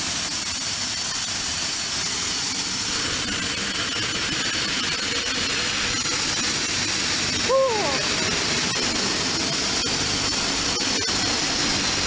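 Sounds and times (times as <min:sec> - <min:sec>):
high turbine whine: 0:00.0 - 0:12.0
propeller plane engine running: 0:00.0 - 0:12.0.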